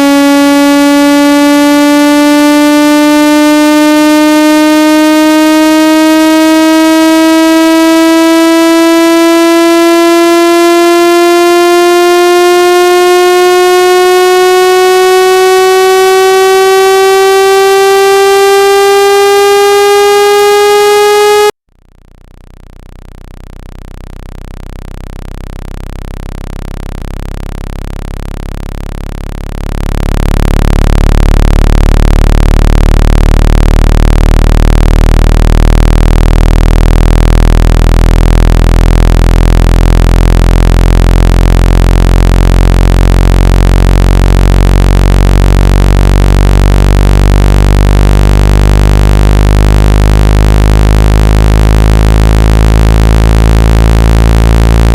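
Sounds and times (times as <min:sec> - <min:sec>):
deep low buzz: 0:00.0 - 0:54.9
steady buzzy tone: 0:00.0 - 0:54.9.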